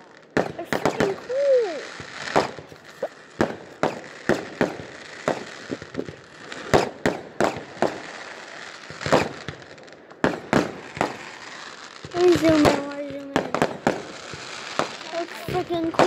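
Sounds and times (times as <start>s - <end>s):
distant fireworks bangs: 0.0s - 16.0s.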